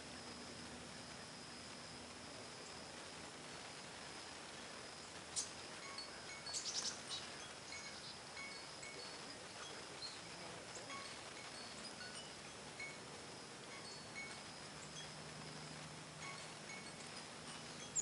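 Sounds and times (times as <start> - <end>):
faint high hum: 0.0 - 18.0
songbirds chipping: 0.0 - 18.0.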